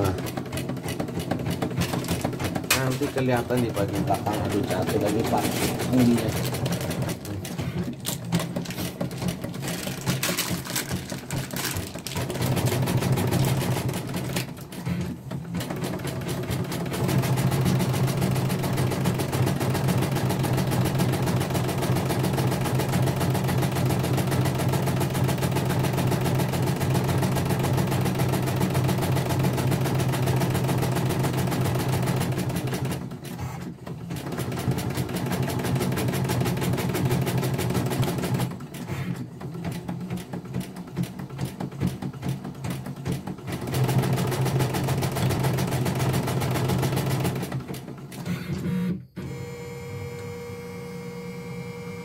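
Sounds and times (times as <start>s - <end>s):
embroidery machine stitching: 0.0s - 49.6s.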